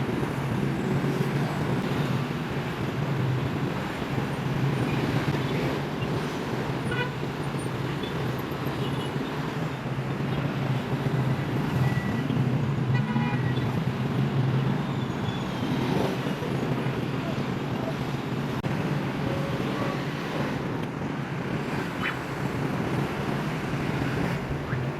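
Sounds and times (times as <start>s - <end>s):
city traffic noise: 0.0s - 24.9s.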